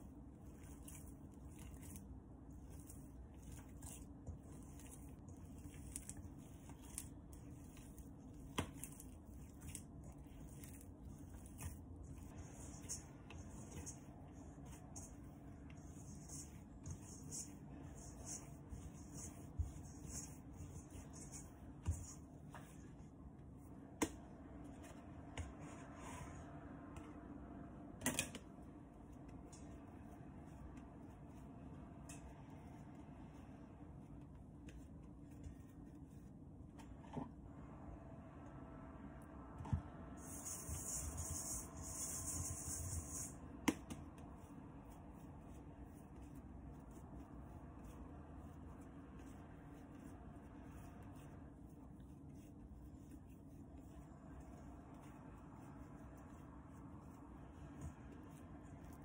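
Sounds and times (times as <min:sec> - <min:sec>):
dough squishing and rustling: 0:00.0 - 0:27.3, 0:28.0 - 0:37.4, 0:39.6 - 0:59.0.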